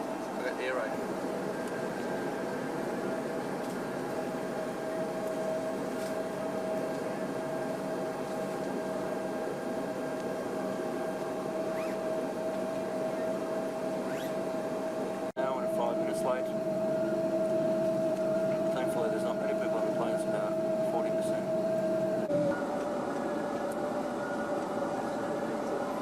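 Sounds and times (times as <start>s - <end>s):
airplane cabin hum: 0.0s - 26.0s.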